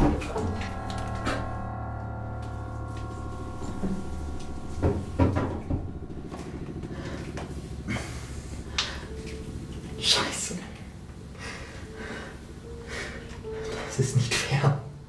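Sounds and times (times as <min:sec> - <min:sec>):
low hum: 0:00.0 - 0:13.9
droning music pad: 0:00.0 - 0:15.0.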